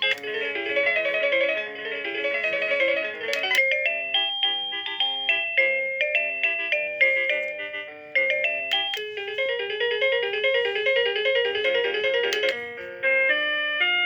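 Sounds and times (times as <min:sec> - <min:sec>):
electronic doorbell chime melody: 0:00.0 - 0:14.0.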